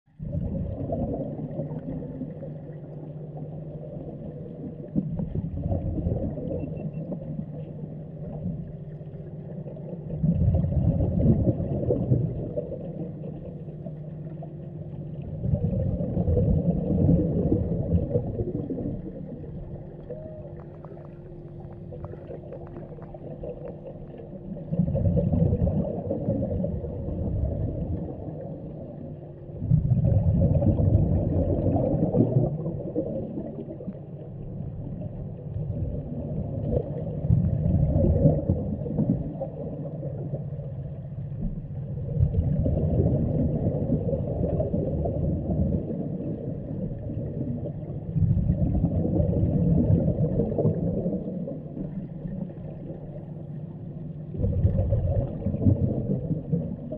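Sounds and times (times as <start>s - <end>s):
diver's bubbles gurgling underwater: 0.1s - 56.9s
faint steady hum: 0.1s - 56.9s.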